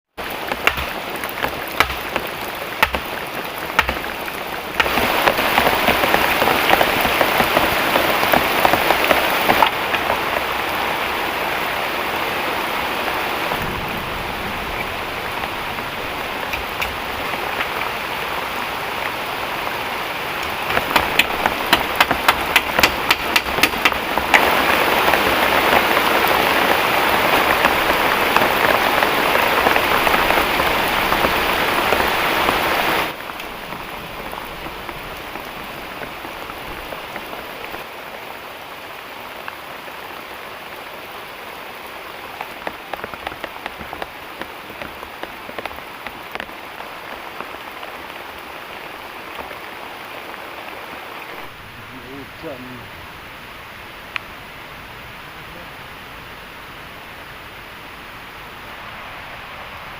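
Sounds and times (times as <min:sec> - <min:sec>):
heavy rain falling: 0:00.1 - 0:59.9
close raindrop impacts: 0:00.2 - 0:54.4.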